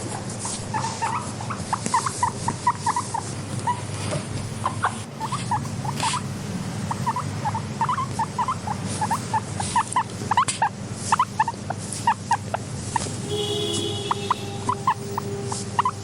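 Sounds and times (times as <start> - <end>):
guinea pig squeaking: 0.0 - 16.0.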